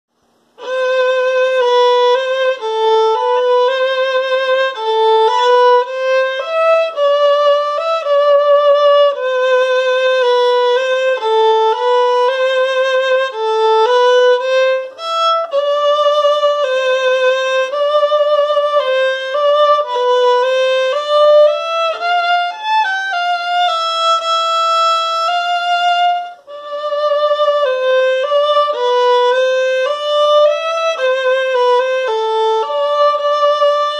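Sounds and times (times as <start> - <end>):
solo violin bowed: 0.3 - 33.9.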